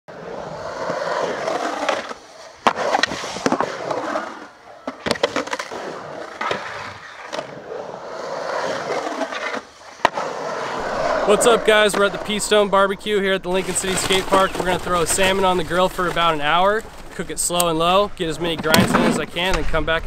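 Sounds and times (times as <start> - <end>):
skateboard trucks grinding and clacking: 0.1 - 20.0
skateboard wheels rolling on concrete: 0.1 - 20.0.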